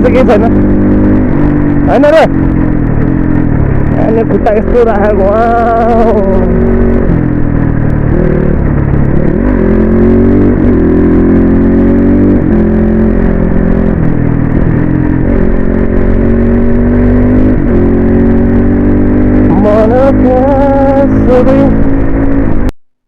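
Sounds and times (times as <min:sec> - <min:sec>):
dirt bike engine running: 0:00.0 - 0:22.7
wind rumble on microphone: 0:00.0 - 0:22.7.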